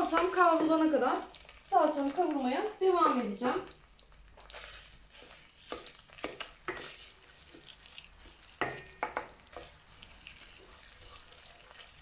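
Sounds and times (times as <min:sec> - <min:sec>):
wooden spoon scraping a pot: 0:00.0 - 0:02.3, 0:04.3 - 0:12.0
paste sizzling in oil: 0:00.0 - 0:12.0.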